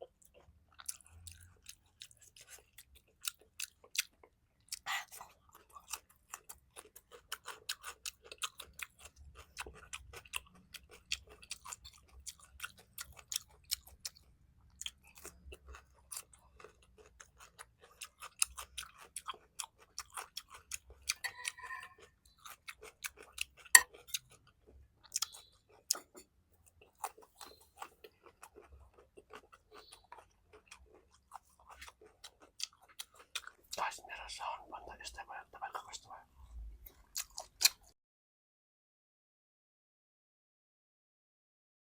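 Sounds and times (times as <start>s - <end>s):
person chewing and eating: 0.0s - 38.0s.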